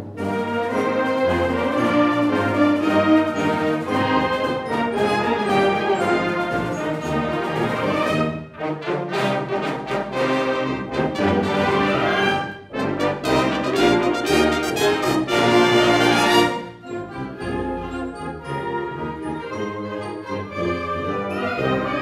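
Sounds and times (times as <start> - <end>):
wind band playing chords: 0.0 - 22.0.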